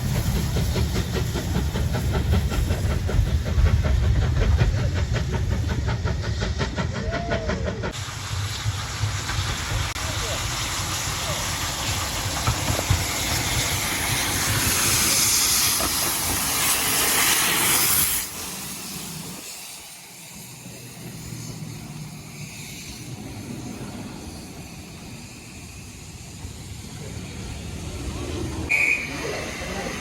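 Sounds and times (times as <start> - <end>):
loud hiss of steam: 0.0 - 30.0
low rumble of train: 0.0 - 30.0.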